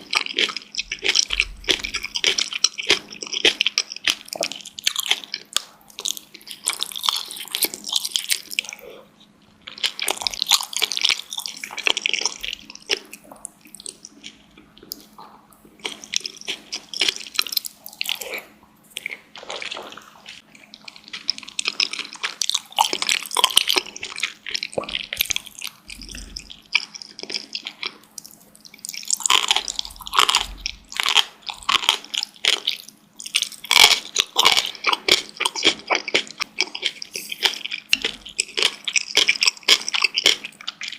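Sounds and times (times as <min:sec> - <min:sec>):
close chewing mouth sounds: 0:00.0 - 0:40.9.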